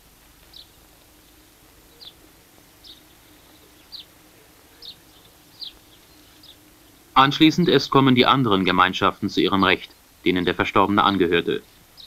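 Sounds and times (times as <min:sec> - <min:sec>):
faint low hum: 0:00.0 - 0:12.0
faint bird chirps: 0:00.4 - 0:12.0.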